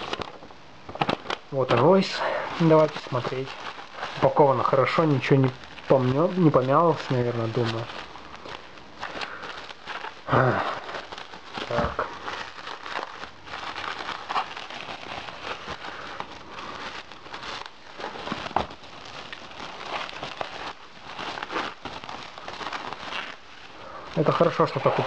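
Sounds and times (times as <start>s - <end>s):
bubble wrap crinkling: 0.0s - 25.0s.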